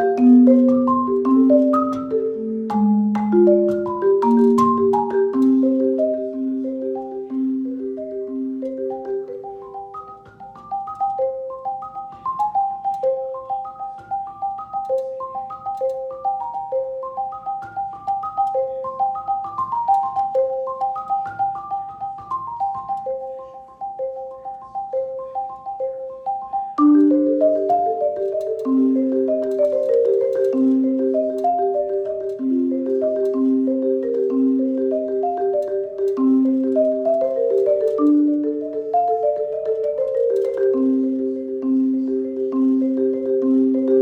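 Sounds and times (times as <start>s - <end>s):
mallet instrument melody: 0.0s - 44.0s.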